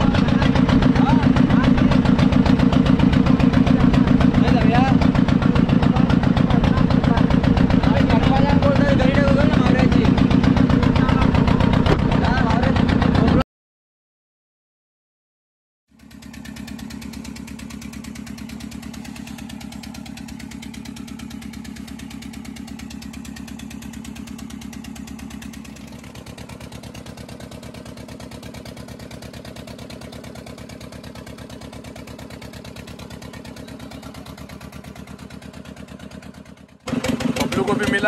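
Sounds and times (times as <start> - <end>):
boat engine running: 0.0 - 13.4, 15.9 - 38.0.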